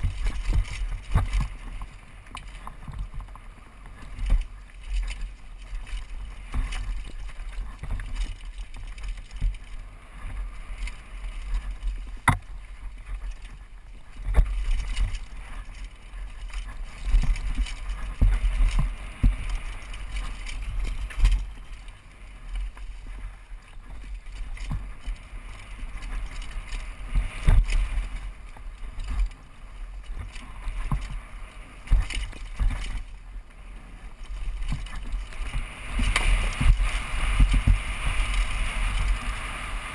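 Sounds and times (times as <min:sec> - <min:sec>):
bike knocking and rattling: 0:00.0 - 0:39.9
wind on microphone: 0:00.0 - 0:39.9.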